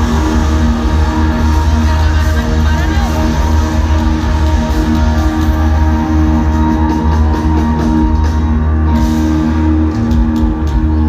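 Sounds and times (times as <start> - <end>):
electric guitar: 0.0 - 11.0
heavy bass: 0.0 - 11.0.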